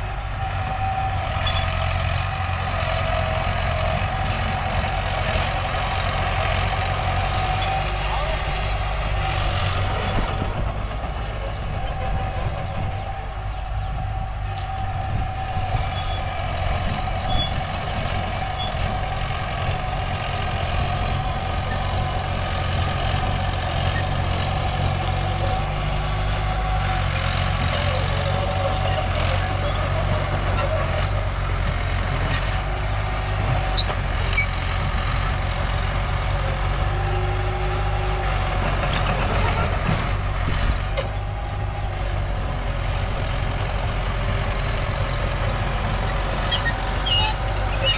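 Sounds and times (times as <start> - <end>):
diesel engines rumbling: 0.0 - 47.9
mid-pitched engine whine: 0.0 - 47.9.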